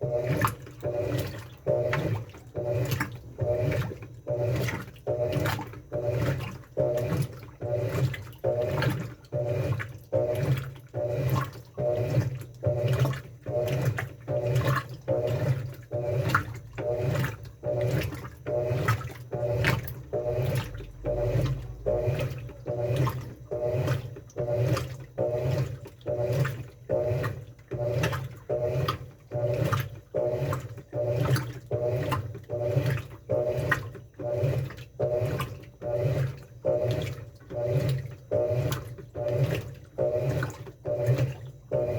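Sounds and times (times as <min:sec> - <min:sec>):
washing machine motor hum: 0:00.0 - 0:41.9
washing machine water sloshing: 0:00.0 - 0:41.9.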